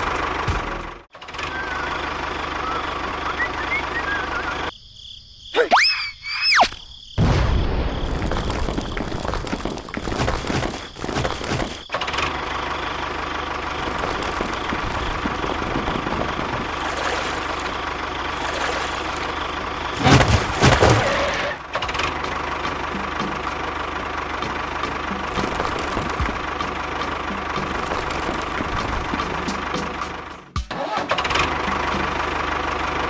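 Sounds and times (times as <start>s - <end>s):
engine running: 0.0s - 4.7s, 8.1s - 33.0s.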